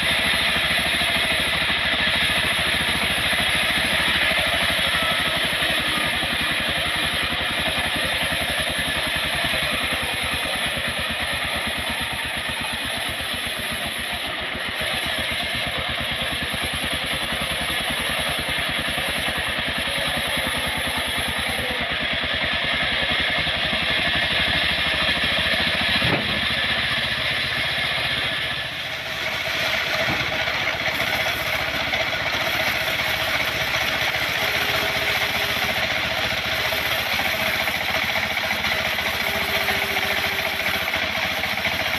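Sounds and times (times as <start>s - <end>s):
wood-cutting machine engine running: 0.0s - 41.9s.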